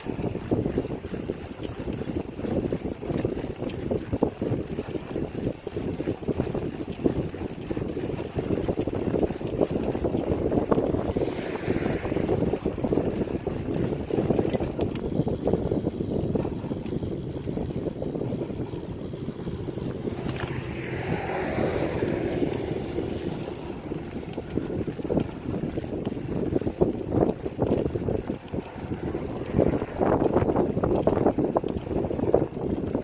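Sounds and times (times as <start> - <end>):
bicycle rolling on concrete: 0.0 - 33.0
wind buffeting microphone: 0.0 - 33.0.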